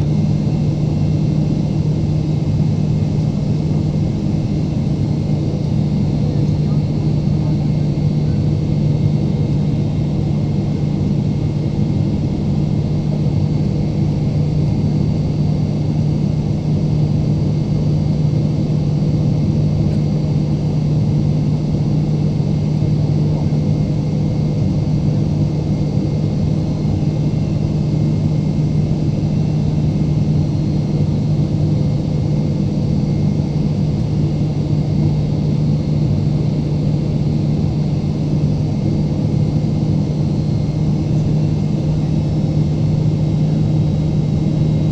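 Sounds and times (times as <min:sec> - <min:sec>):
airliner cabin drone: 0:00.0 - 0:44.9.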